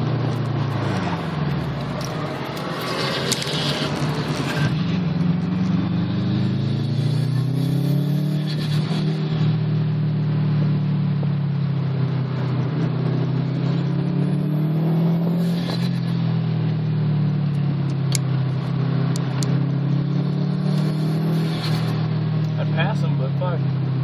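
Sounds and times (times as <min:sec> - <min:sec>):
car engine running hard: 0:00.0 - 0:24.0
road and wind noise: 0:00.0 - 0:24.0.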